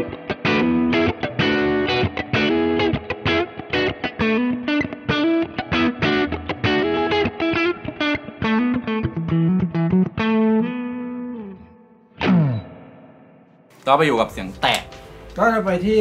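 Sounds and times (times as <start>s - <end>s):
clean electric guitar: 0.0s - 13.7s.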